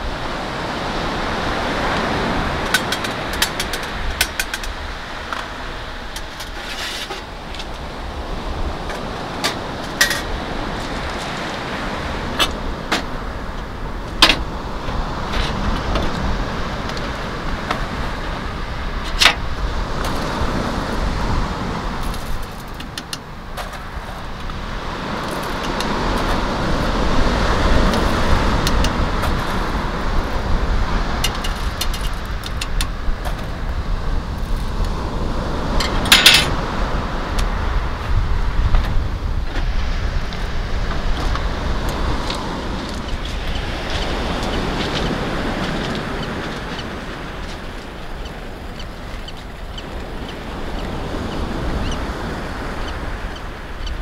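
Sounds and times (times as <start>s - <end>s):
surf: 0.0s - 54.0s
wind: 0.0s - 54.0s.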